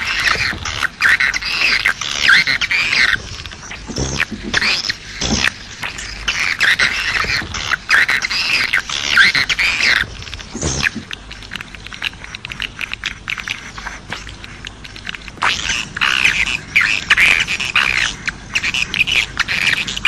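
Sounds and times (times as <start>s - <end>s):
rapid dry clicks: 0.0s - 20.0s
swiftlets twittering: 0.0s - 20.0s.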